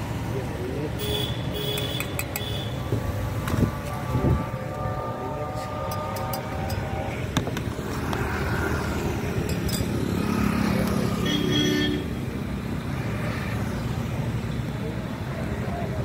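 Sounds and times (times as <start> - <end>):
passing traffic rumble: 0.0 - 16.0.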